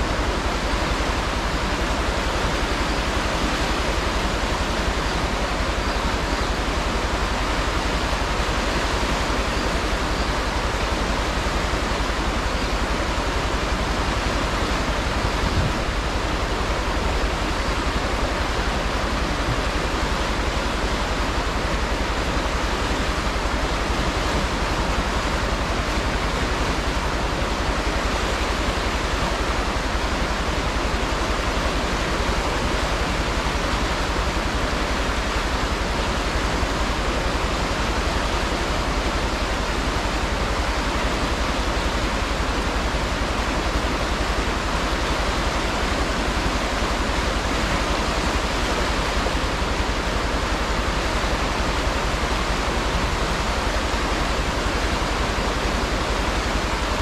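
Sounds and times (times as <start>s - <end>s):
river rushing over rapids: 0.0s - 57.0s.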